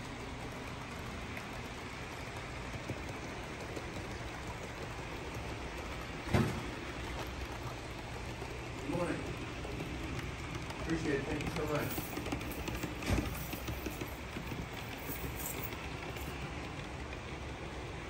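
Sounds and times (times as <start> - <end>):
model train rolling hiss: 0.0 - 18.0.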